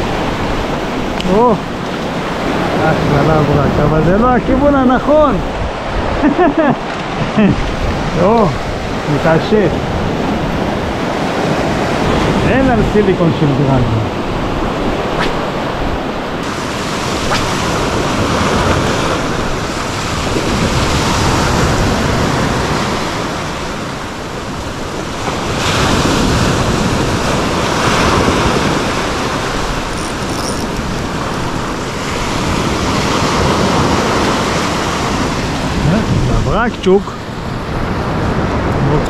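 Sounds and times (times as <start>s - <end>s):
sea surf washing over rocks: 0.0s - 39.0s.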